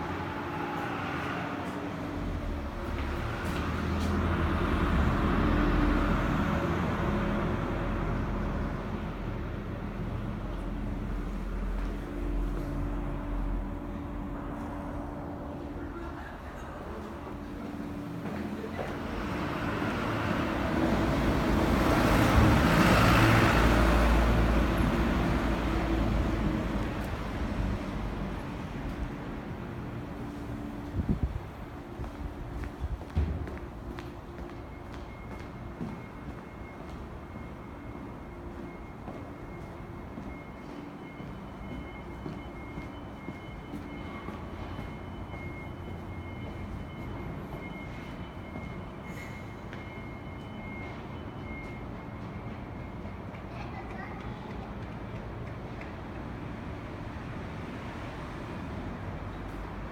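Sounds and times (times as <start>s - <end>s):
rumble of passing vehicles: 0.0s - 40.5s, 41.1s - 59.9s.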